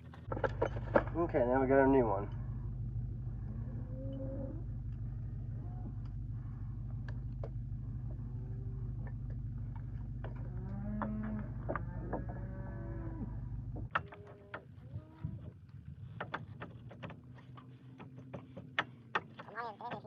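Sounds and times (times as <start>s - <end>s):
distant cattle lowing: 0.0s - 20.0s
steady low hum: 0.0s - 20.0s.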